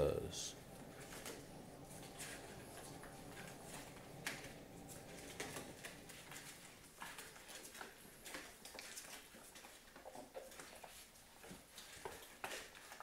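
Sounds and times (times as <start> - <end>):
puppies suckling wet smacking: 0.9 - 13.0.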